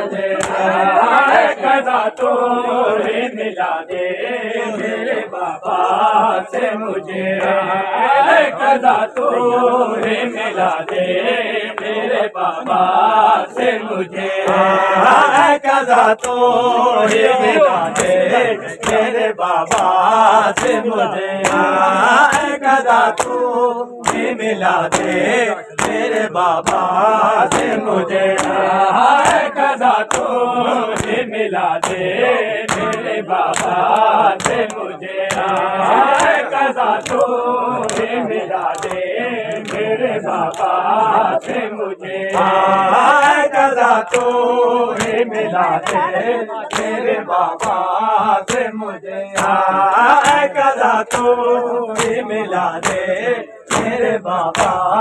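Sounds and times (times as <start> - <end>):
men chanting in unison: 0.0 - 55.0
hands slapping bare chests: 0.3 - 3.2, 8.2 - 13.8, 14.4 - 55.0.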